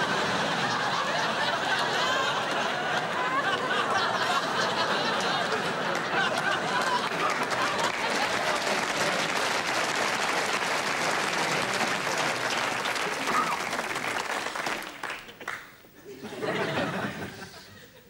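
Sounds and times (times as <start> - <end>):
audience laughing: 0.0 - 14.1, 16.0 - 18.0.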